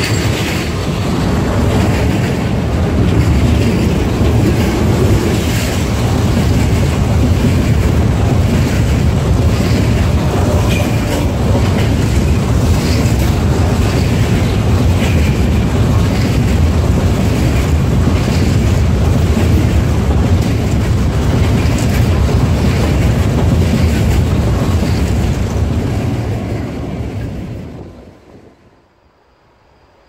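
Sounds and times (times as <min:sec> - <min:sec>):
diesel locomotive passing: 0:00.0 - 0:30.0
train wheels rumbling on rail: 0:00.0 - 0:30.0.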